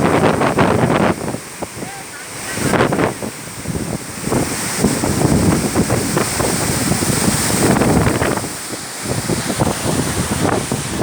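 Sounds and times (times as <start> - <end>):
waterfall rushing: 0.0 - 11.0
wind buffeting microphone: 0.0 - 11.0.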